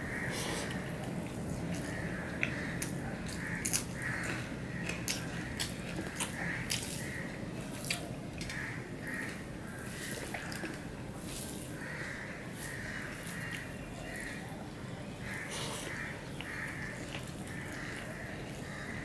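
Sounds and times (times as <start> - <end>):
food mixed on a steel plate: 0.0 - 19.0
wet chewing and smacking: 0.6 - 14.6, 15.2 - 19.0.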